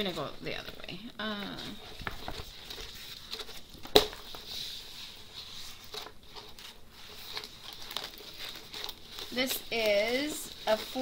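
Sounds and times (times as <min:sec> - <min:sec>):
plastic-covered canvas rustling: 0:00.0 - 0:11.0.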